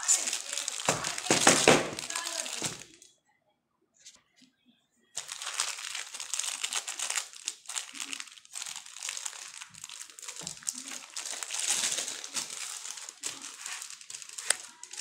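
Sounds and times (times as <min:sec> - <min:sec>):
plastic wrap crinkling: 0:00.0 - 0:03.1, 0:05.2 - 0:15.0.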